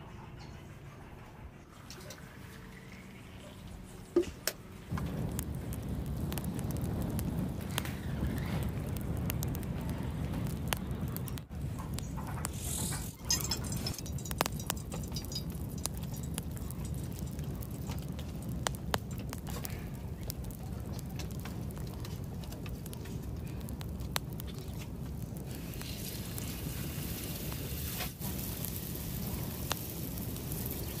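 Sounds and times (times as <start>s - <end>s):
wood fire crackling: 1.9s - 31.0s.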